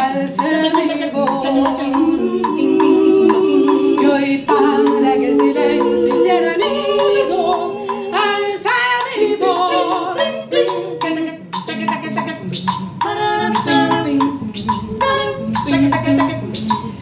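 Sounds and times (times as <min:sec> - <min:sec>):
women singing a cappella: 0:00.0 - 0:17.0
sharp percussive hits: 0:00.4 - 0:08.1, 0:10.6 - 0:17.0.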